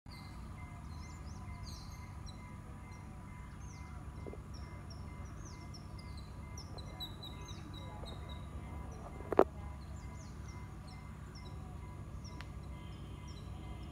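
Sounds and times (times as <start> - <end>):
birds chirping: 0.1 - 13.9
low outdoor hum: 0.1 - 13.9.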